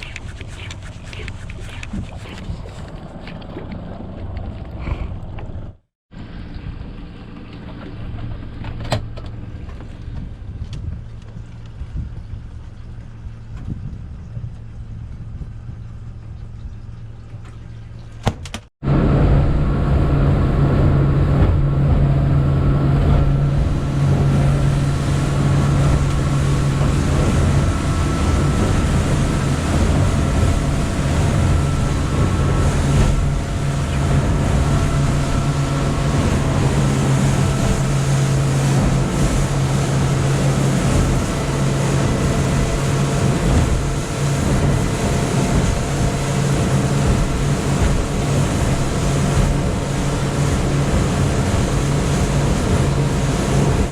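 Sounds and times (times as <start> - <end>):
boat engine humming: 0.0 - 53.9
water noise: 0.0 - 53.9
wind: 0.0 - 53.9.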